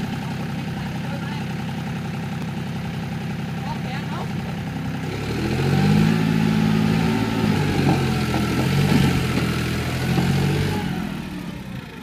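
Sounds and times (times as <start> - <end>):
tractor diesel engine working hard: 0.0 - 12.0.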